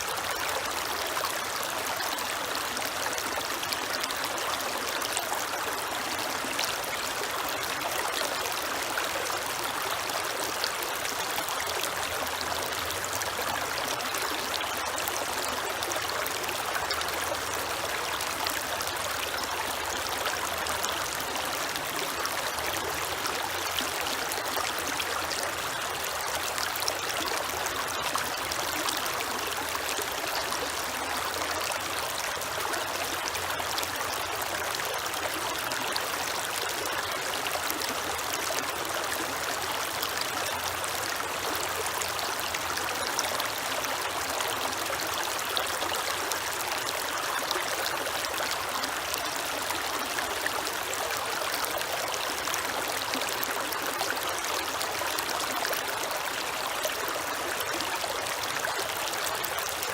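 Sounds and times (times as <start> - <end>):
water running over rocks: 0.0 - 59.9.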